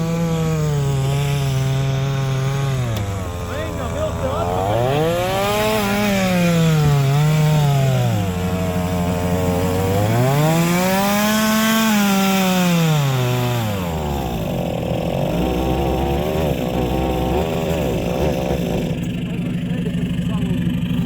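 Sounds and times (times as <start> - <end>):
chainsaw revving cutting wood: 0.0 - 21.0.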